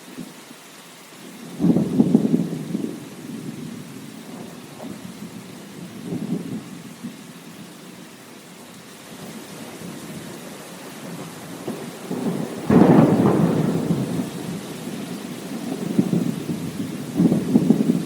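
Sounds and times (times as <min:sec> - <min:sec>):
steady rain: 0:00.0 - 0:18.0
thunder rumbling: 0:01.5 - 0:08.0, 0:09.2 - 0:18.0.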